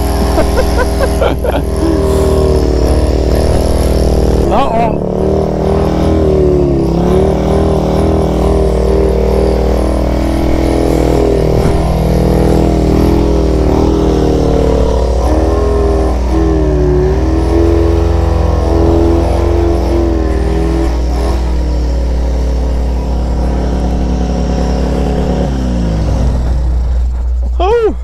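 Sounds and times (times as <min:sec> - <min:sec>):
snowmobile engines idling: 0:00.0 - 0:28.0.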